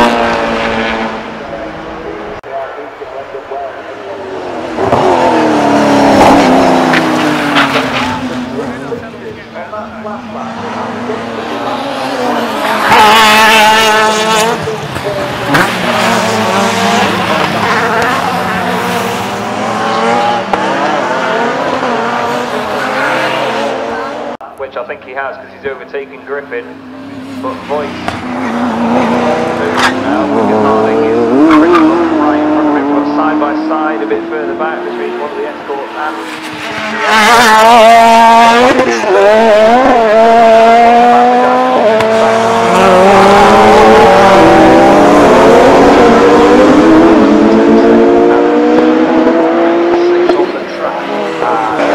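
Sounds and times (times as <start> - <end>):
race car engines revving: 0.0 - 51.9.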